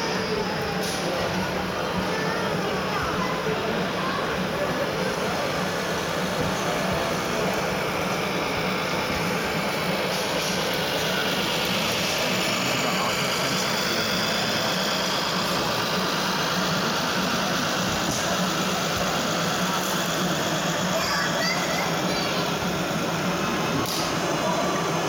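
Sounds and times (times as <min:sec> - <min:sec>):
diesel truck engine sound: 0:00.0 - 0:25.0.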